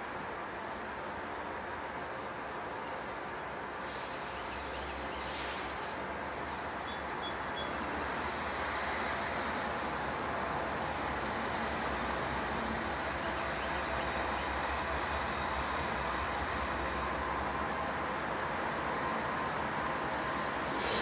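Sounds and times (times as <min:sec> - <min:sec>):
diesel train engine rumble: 0:00.0 - 0:21.0.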